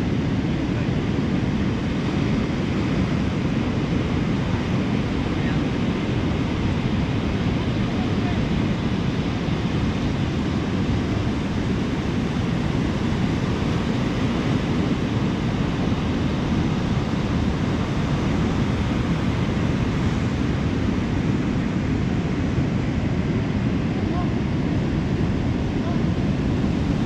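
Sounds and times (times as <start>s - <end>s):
ocean surf on beach: 0.0s - 27.0s.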